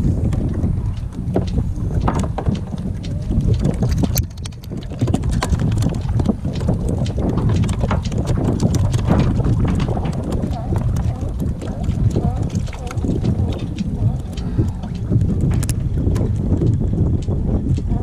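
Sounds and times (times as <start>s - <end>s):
fish flapping against plastic hull: 0.0s - 18.0s
wind buffeting microphone: 0.0s - 18.0s.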